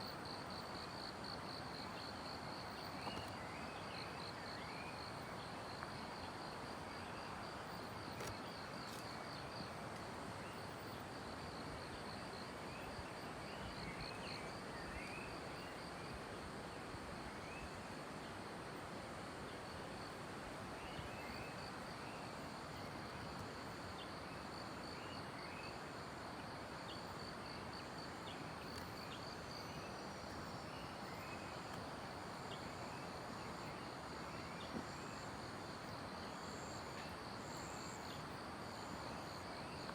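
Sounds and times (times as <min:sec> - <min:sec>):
constant rushing hiss: 0:00.0 - 0:39.9.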